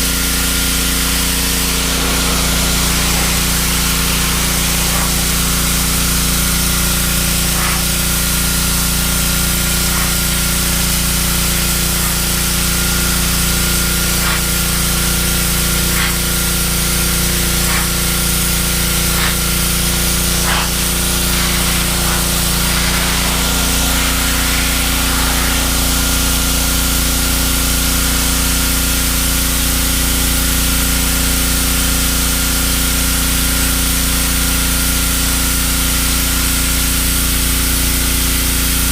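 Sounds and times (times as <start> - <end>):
high-pressure spray hissing: 0.0 - 38.4
pressure washer motor hum: 0.0 - 38.9.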